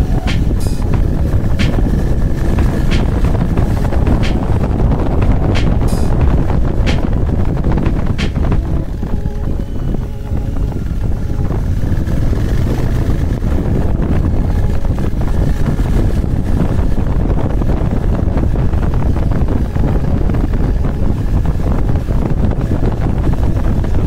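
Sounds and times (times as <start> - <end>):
motorcycle engine running: 0.0 - 24.0
wind rumble on microphone: 0.0 - 24.0.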